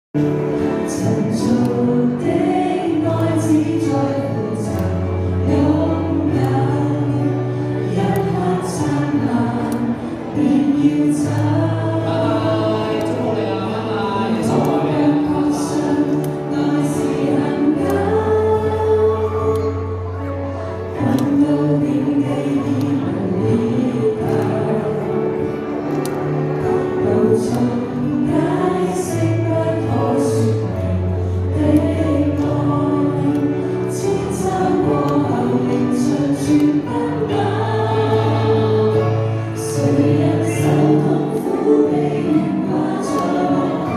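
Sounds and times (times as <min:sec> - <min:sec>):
choir singing a hymn: 0:00.2 - 0:43.9
instrumental accompaniment: 0:00.2 - 0:43.9.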